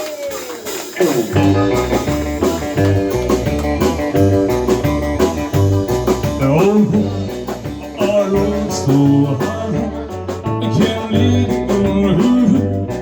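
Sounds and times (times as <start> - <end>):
live band blues-rock groove: 0.3 - 13.0
guitar bend: 1.3 - 13.0.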